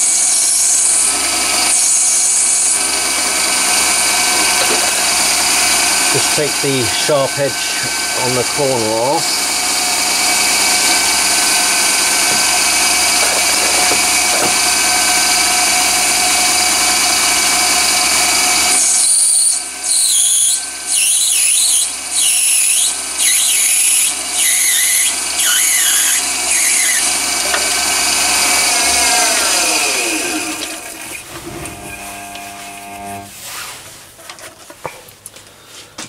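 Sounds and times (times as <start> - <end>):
cutting tool squealing: 0.0 - 30.9
lathe motor and gear whine: 0.0 - 33.3.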